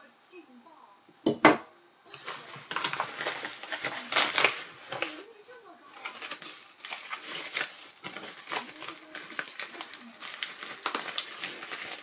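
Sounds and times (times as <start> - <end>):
plastic wrapping crinkling: 2.1 - 12.0.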